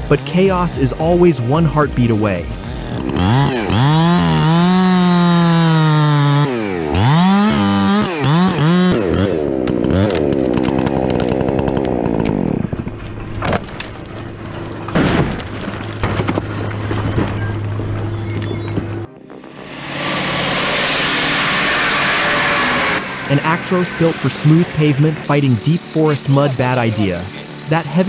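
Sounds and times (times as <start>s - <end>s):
chainsaw revving and cutting: 0.0s - 17.2s, 19.6s - 28.0s.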